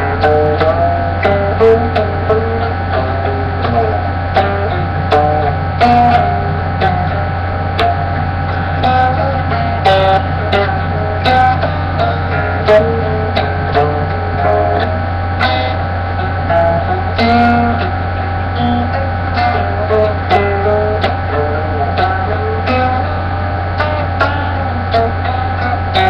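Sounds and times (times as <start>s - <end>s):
plucked string instrument: 0.0s - 26.0s
steady low hum: 0.0s - 26.0s.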